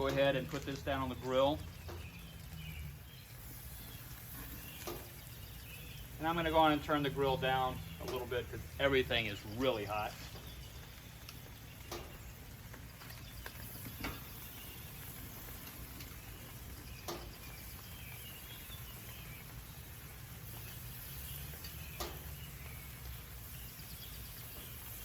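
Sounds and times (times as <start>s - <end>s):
tofu sizzling on grill: 0.0s - 25.0s.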